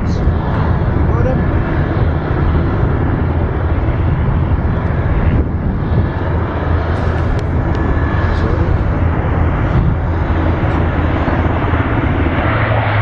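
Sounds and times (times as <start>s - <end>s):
aircraft low rumble: 0.0s - 13.0s.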